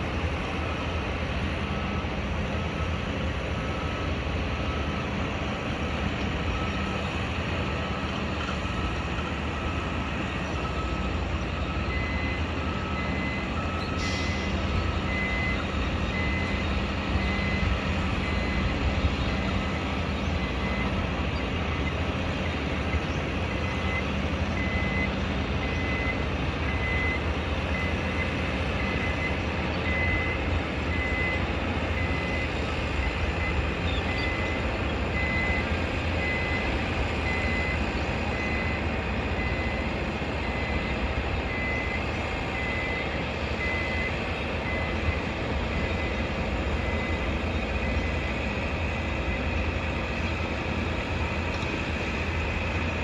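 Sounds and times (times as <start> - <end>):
rumble of engines and machinery: 0.0 - 53.0
reversing alarm beeping: 1.8 - 53.0.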